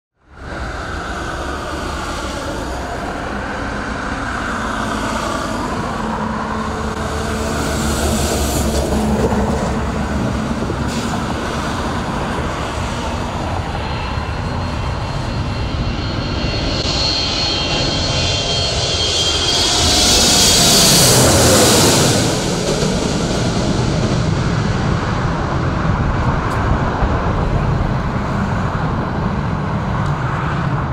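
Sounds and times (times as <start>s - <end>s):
jet engines rushing: 0.2s - 30.9s.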